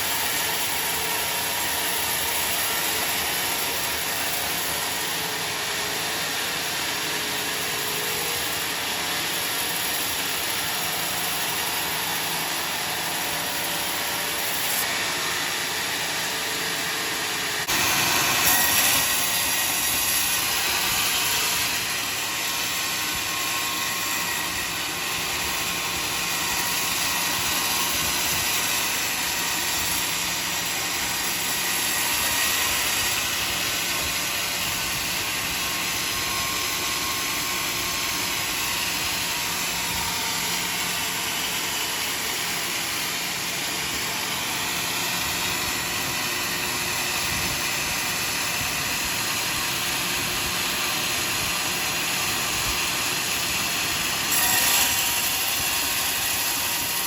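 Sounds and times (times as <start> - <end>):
sawmill saw cutting a log: 0.0 - 57.0.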